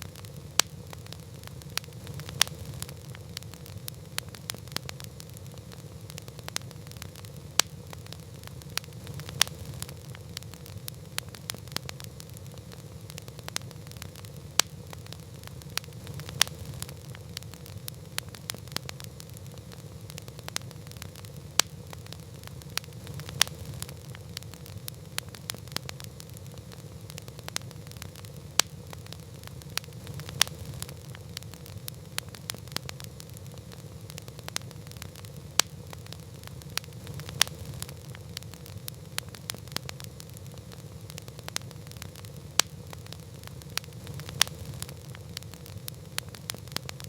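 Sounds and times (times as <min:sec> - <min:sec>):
campfire flame rushing: 0:00.0 - 0:47.0
fire crackling and popping: 0:00.0 - 0:47.0.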